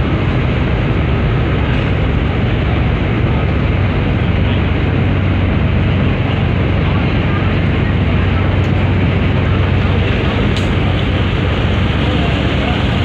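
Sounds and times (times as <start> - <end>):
ferry engine drone: 0.0 - 13.0
rushing water noise: 0.0 - 13.0.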